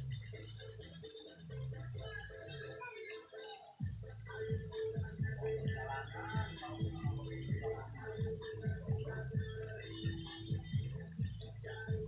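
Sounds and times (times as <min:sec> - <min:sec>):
music with repeating bass line: 0:00.0 - 0:02.6, 0:03.8 - 0:12.0.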